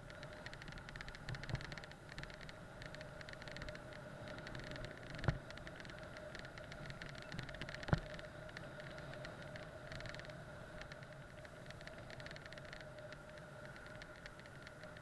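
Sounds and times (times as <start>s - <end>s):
bike road noise: 0.0s - 15.0s
faint whine: 0.0s - 15.0s.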